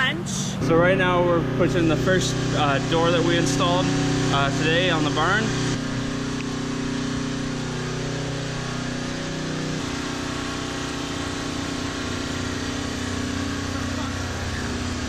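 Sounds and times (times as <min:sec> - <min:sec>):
generator running: 0:00.0 - 0:15.0
utility vehicle idling: 0:00.0 - 0:15.0
low hum: 0:00.6 - 0:15.0.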